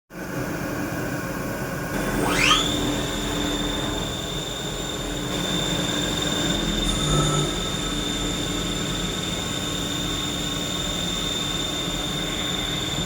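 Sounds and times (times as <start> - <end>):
machine spindle whine: 1.9 - 13.0.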